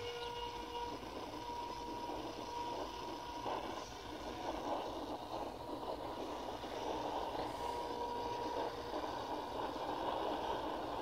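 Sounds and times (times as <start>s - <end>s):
distant warning sirens: 0.0s - 11.0s
wind buffeting microphone: 0.0s - 11.0s.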